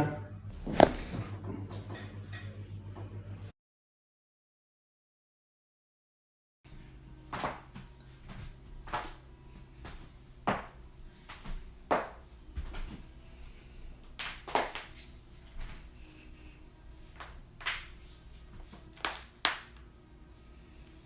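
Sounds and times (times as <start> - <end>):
low room hum: 0.0 - 3.5, 6.7 - 21.0.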